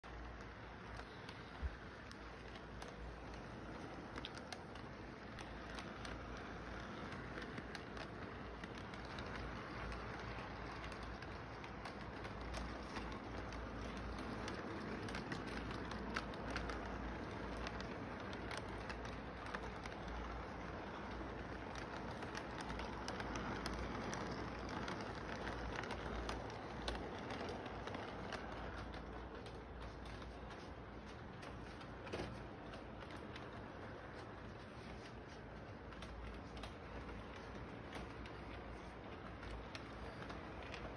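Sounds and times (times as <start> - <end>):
toy train rumbling on track: 0.0 - 40.9
small scattered clicks: 0.1 - 40.9.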